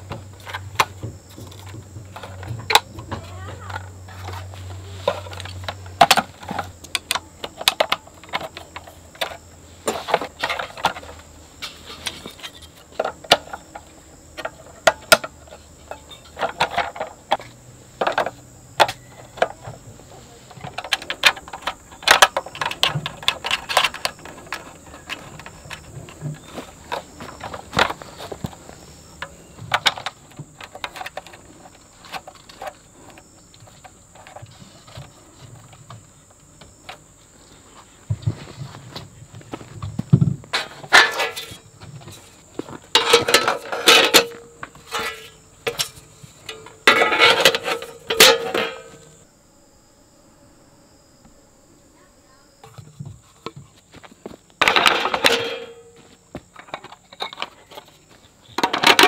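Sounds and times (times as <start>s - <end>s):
camping gear clattering: 0.0s - 37.2s, 38.1s - 49.2s, 52.6s - 59.0s.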